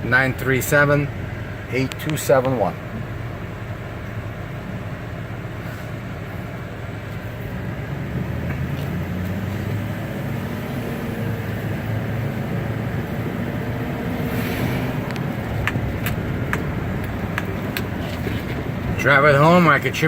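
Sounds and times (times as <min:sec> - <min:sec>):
diesel truck engine rumble: 0:00.0 - 0:20.0
road noise: 0:00.0 - 0:20.0.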